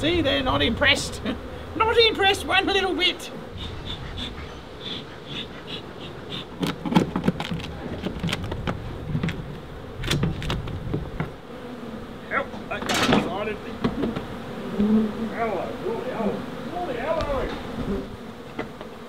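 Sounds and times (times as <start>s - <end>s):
bees buzzing: 0.0s - 19.0s
hive tool scraping comb: 3.4s - 19.0s.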